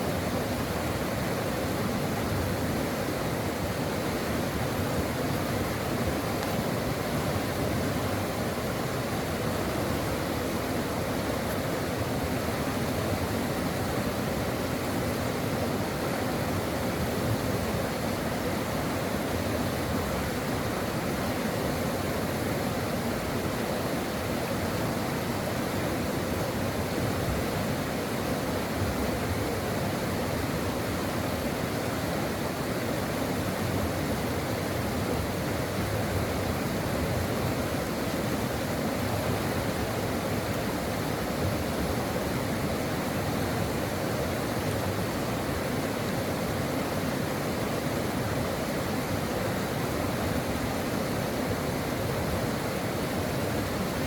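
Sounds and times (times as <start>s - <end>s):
brook water rushing: 0.0s - 54.0s.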